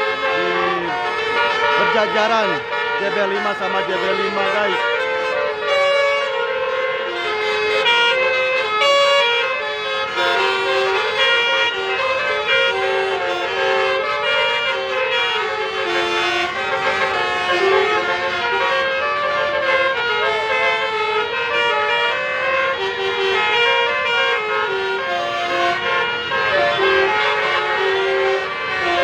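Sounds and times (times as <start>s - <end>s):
multi-tone bus horn melody: 0.0s - 29.0s.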